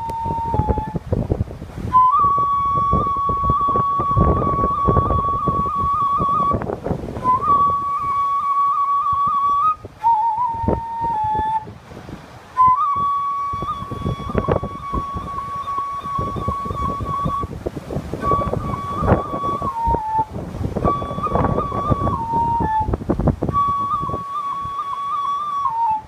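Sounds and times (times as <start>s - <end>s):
flute playing festival music: 0.0s - 26.0s
wind buffeting microphone: 0.0s - 26.0s.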